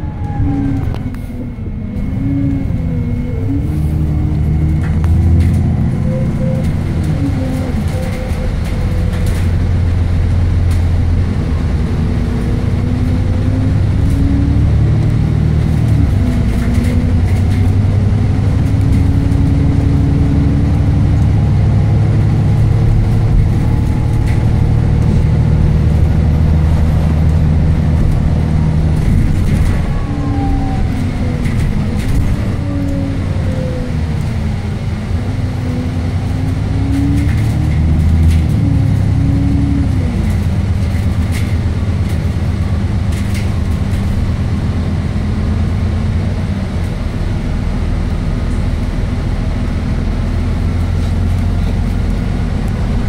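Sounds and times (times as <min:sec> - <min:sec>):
bus diesel engine pulling: 0:00.0 - 0:53.0.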